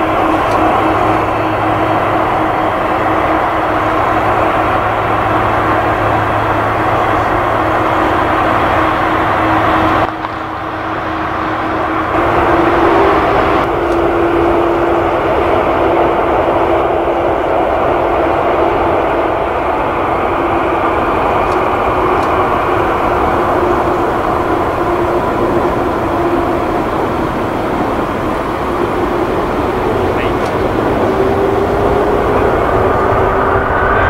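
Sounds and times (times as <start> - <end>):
jet engines at taxi power: 0.0 - 34.0.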